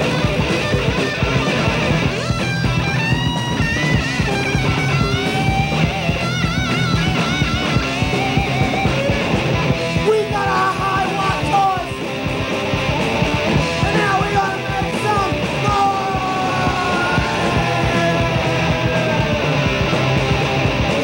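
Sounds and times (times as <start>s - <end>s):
distorted electric guitar: 0.0s - 21.0s
punk rock band playing: 0.0s - 21.0s
yelled vocals: 0.0s - 21.0s.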